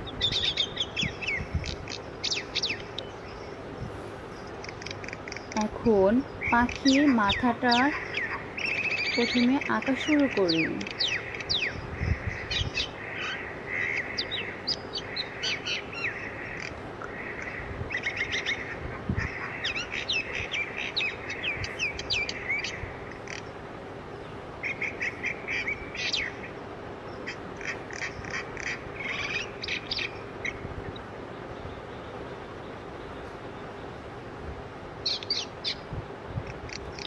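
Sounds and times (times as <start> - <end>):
birds chirping: 0.0 - 37.0
steady low hum: 0.0 - 37.0.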